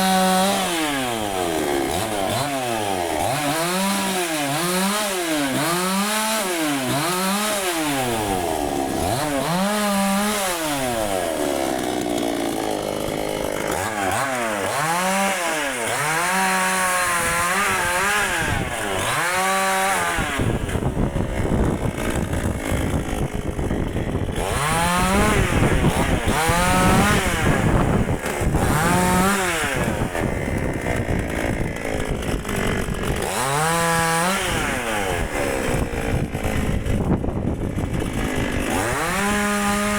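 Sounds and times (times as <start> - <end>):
chainsaw cutting wood: 0.0 - 39.9
chainsaw engine revving: 0.0 - 39.9.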